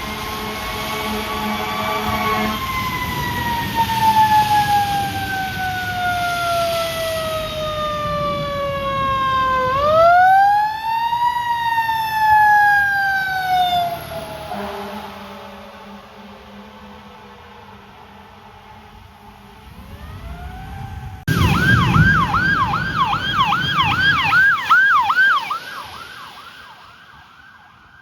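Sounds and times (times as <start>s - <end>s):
fire engine siren wailing: 0.0s - 28.0s.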